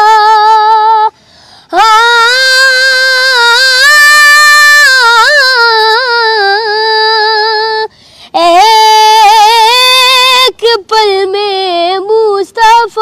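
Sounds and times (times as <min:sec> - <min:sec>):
boy singing unaccompanied: 0:00.0 - 0:13.0.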